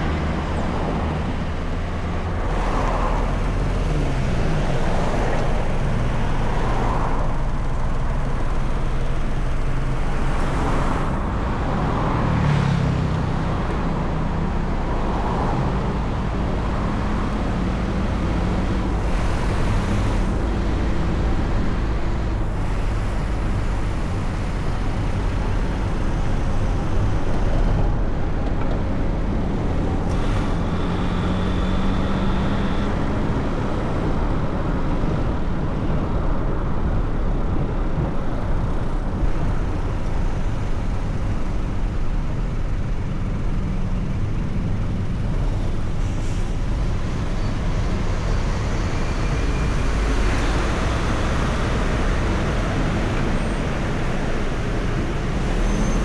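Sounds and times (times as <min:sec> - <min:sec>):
car road and engine rumble: 0:00.0 - 0:56.0
surrounding traffic engines: 0:00.0 - 0:56.0.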